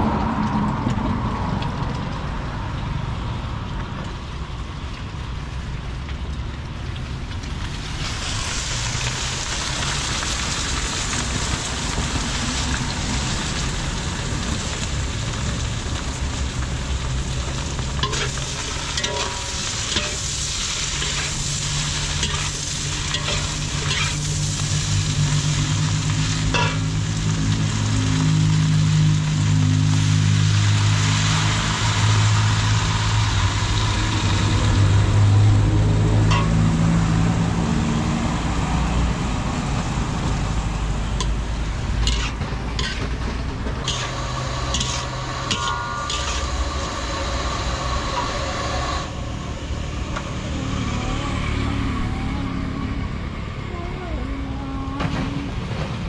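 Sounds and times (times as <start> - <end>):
low engine hum: 0.0 - 56.0
food sizzling: 6.7 - 52.0.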